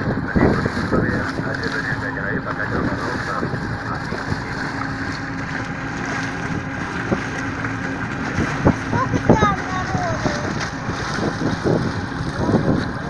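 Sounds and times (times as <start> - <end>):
outboard motor droning: 0.0 - 13.0
water rushing past hull: 0.0 - 13.0
wind buffeting microphone: 0.0 - 13.0.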